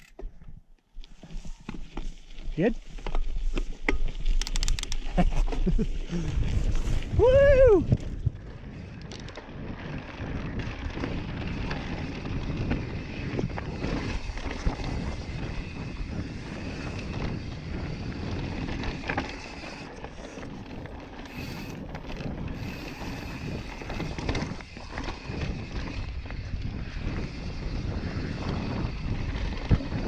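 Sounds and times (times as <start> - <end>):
bike tyres on dirt trail: 0.0 - 30.0
wind buffeting microphone: 5.7 - 30.0.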